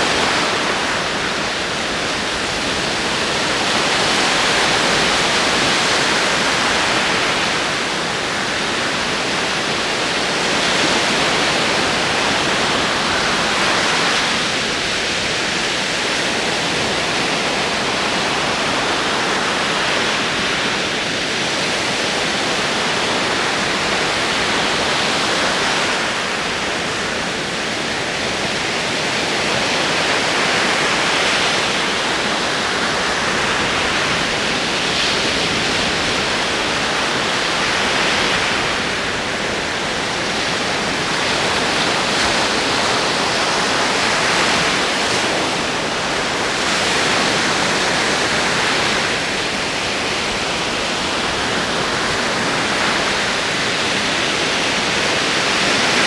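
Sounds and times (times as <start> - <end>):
ocean waves surf: 0.0 - 56.0.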